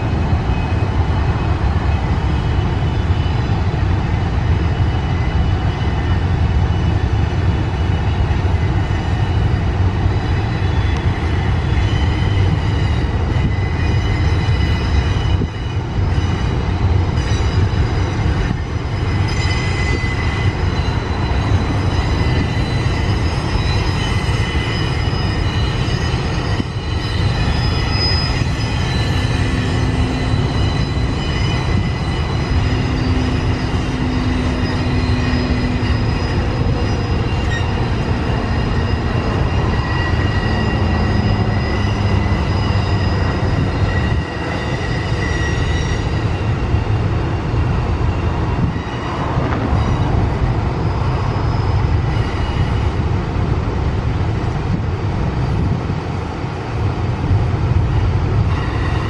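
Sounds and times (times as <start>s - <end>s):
high wheel squeals: 0.0s - 53.2s, 56.8s - 59.0s
freight cars rumbling on rails: 0.0s - 59.0s.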